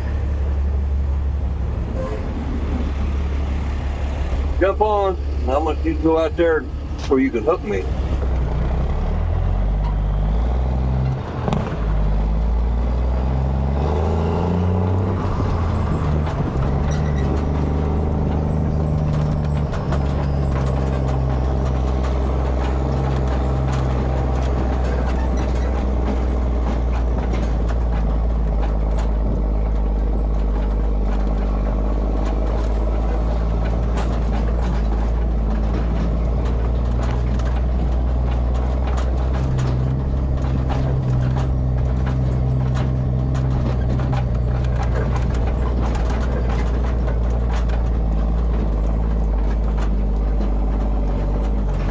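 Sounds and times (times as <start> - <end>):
heavy vehicle engine revving: 0.0 - 51.9.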